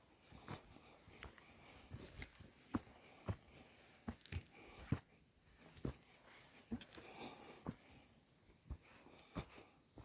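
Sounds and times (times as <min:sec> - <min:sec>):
footsteps on forest trail: 0:00.0 - 0:10.0.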